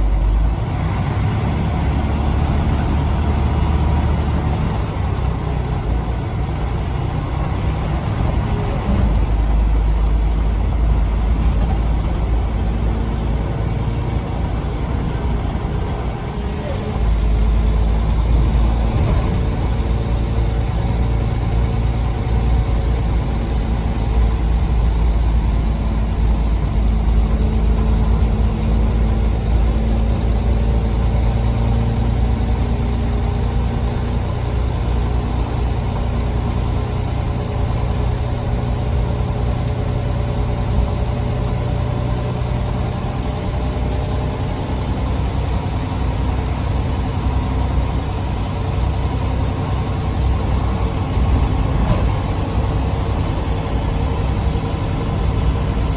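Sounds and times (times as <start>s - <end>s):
bus diesel engine droning: 0.0s - 55.9s.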